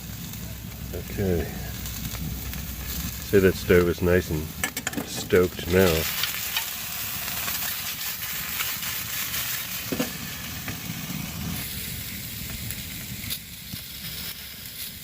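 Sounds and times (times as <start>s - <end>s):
sausage sizzling in a frying pan: 0.0s - 15.0s.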